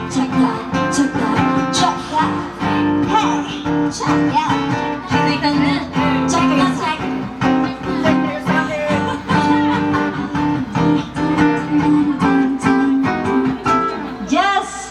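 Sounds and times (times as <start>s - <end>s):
strummed guitar music: 0.0s - 14.9s.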